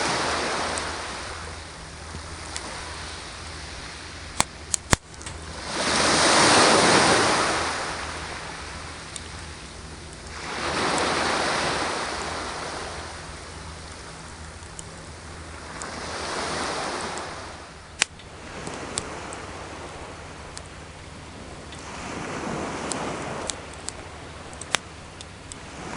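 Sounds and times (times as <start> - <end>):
campfire crackling: 0.0 - 25.8
sea waves breaking on shore: 0.0 - 25.9.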